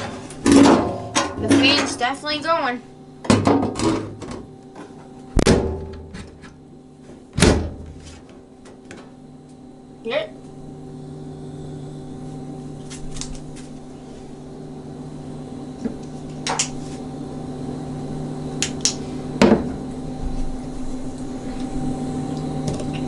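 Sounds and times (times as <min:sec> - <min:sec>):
furnace blower fan hum: 0:00.0 - 0:23.0.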